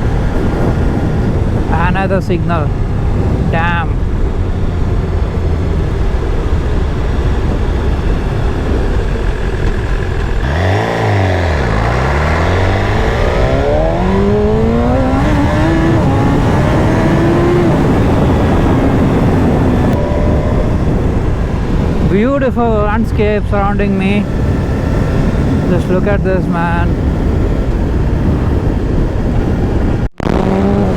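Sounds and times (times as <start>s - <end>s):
heavy wind noise: 0.0s - 30.9s
motorcycle engine running: 0.0s - 30.9s.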